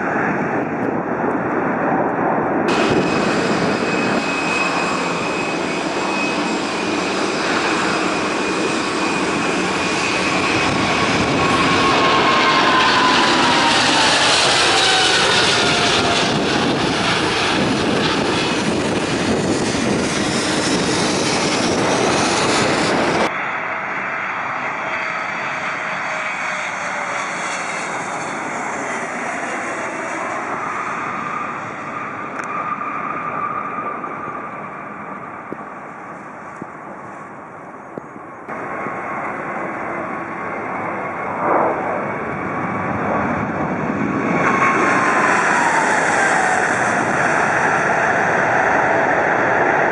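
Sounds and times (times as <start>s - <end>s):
jet engines passing by: 0.0s - 49.9s.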